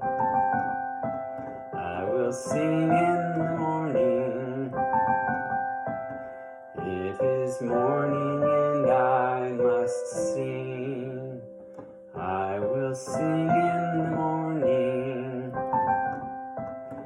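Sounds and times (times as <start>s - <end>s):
soft piano accompaniment: 0.0s - 17.0s
person singing: 1.7s - 5.6s, 6.8s - 17.0s.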